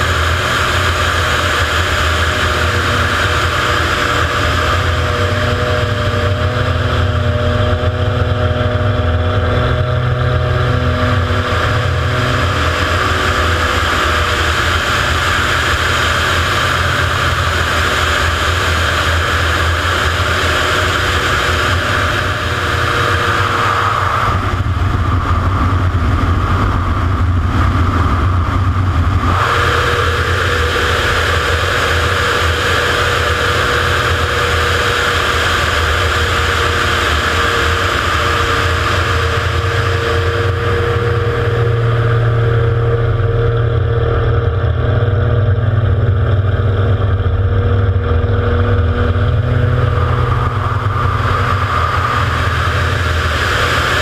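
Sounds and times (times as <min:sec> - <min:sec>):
propeller plane engine: 0:00.0 - 0:54.0
wind rush over microphone: 0:00.0 - 0:54.0.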